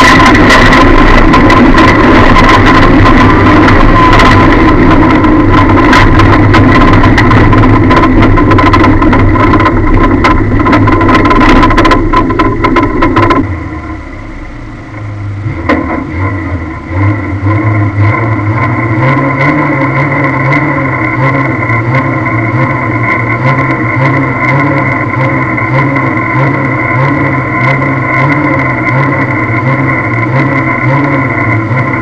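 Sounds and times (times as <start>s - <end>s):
car engine running hard: 0.0s - 32.0s.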